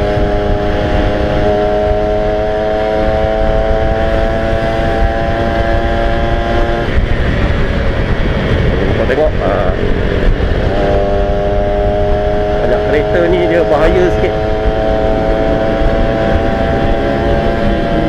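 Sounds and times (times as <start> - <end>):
motorcycle engine running: 0.0 - 18.0
wind rumble on microphone: 0.0 - 18.0.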